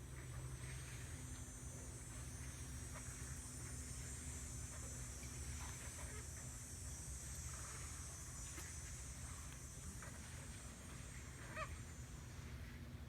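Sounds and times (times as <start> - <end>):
faint steady hum: 0.0 - 13.0
high-pitched insect chorus: 0.6 - 12.3.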